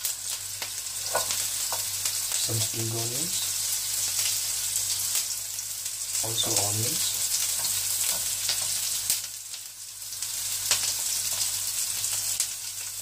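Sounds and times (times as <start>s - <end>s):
hot oil sizzling in a wok: 0.0s - 13.0s.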